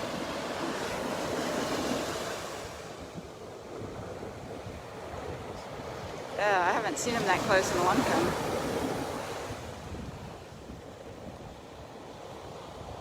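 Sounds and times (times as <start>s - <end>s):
ocean surf washing on beach: 0.0s - 13.0s
wind rumbling on microphone: 0.0s - 13.0s.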